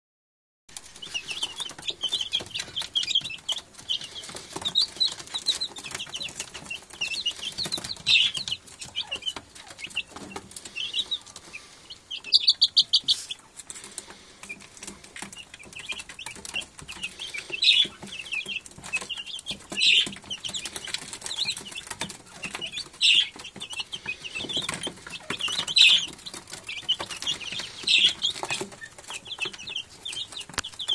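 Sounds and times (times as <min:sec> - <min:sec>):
chicks peeping: 0:00.7 - 0:30.9.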